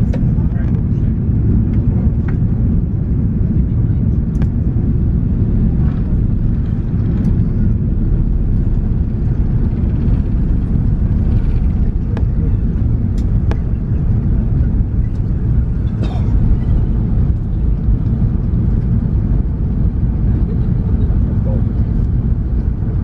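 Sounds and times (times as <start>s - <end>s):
airplane engines rumbling on takeoff: 0.0s - 23.0s.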